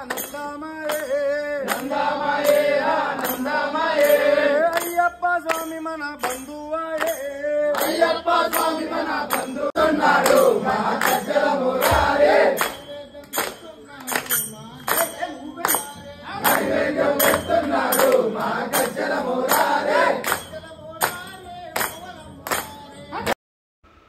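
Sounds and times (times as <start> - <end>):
devotional singing: 0.0 - 23.3
steady percussion beat: 0.0 - 23.3.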